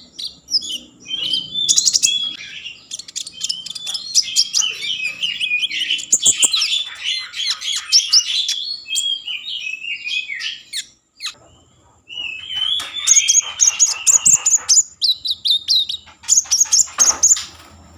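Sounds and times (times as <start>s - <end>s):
songbird singing: 0.0s - 17.6s.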